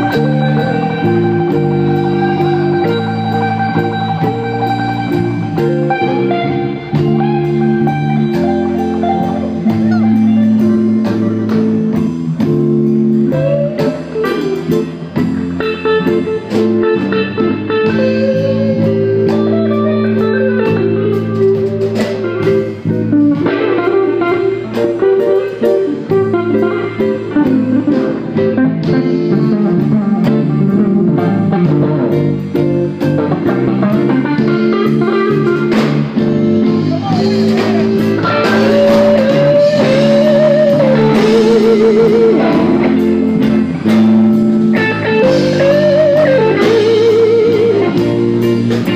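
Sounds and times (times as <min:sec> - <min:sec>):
blues band playing: 0:00.0 - 0:48.9
electric guitar solo: 0:00.0 - 0:48.9.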